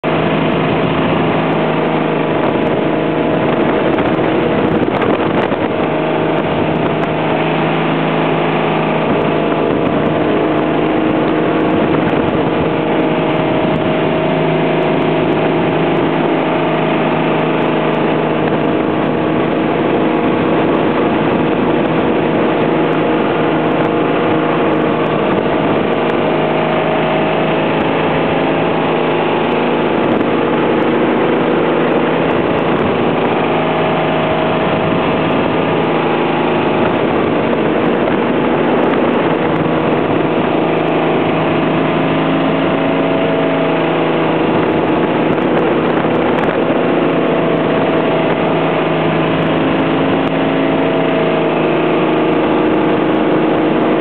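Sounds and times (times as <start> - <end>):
boat engine running: 0.0 - 54.0
rush of wake and spray: 0.0 - 54.0.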